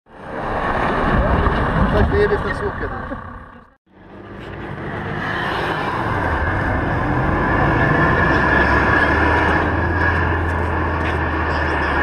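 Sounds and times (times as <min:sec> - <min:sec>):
off-road engine humming: 0:00.1 - 0:12.0.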